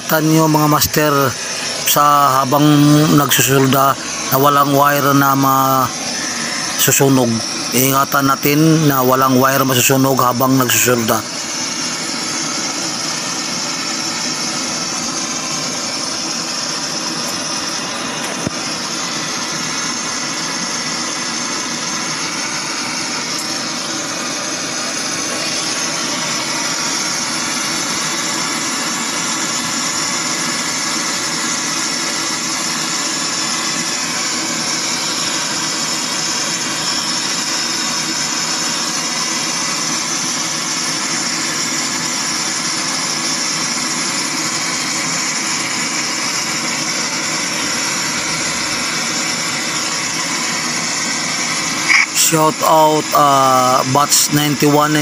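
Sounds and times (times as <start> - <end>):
gas torch hissing: 0.0 - 54.4.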